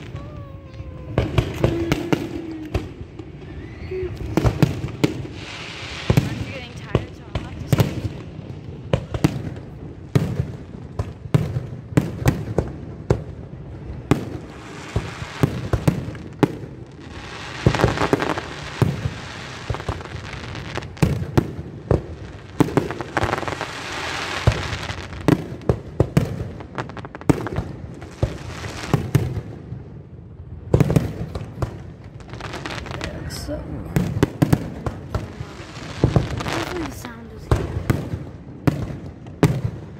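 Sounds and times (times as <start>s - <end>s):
crackling hiss of fireworks: 0.0s - 39.9s
fireworks bangs and pops: 0.0s - 39.9s.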